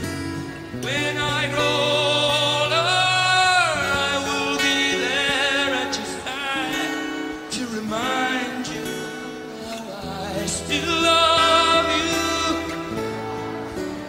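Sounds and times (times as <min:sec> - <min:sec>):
man singing a ballad: 0:00.0 - 0:14.0
plucked acoustic guitar: 0:00.0 - 0:14.0.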